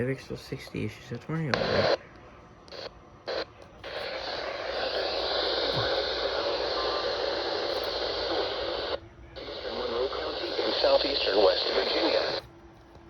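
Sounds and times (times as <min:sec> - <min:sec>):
radio static hiss: 0:00.0 - 0:12.5.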